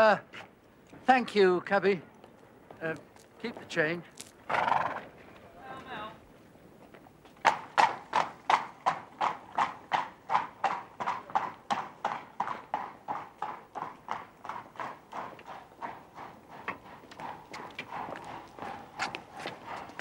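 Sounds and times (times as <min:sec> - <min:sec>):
horse hooves clip-clopping on street: 0:00.0 - 0:20.0.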